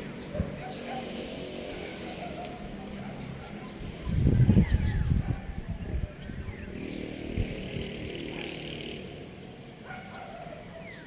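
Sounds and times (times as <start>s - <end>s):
vehicle engine passing by: 0.0s - 10.4s.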